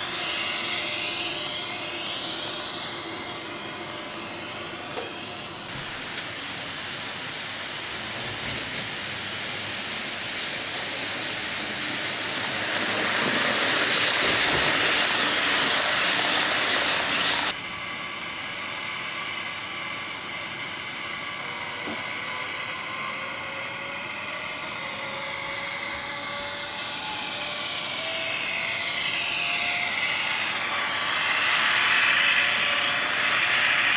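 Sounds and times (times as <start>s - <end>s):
whining tones rising in pitch: 0.0s - 5.8s, 11.6s - 33.9s.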